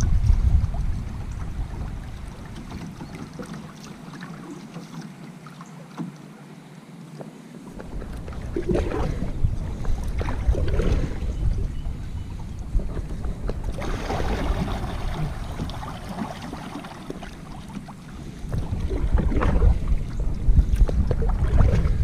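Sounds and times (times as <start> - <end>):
wind rumbling on microphone: 0.0 - 3.6, 7.6 - 22.0
water and hull sounds: 0.0 - 22.0.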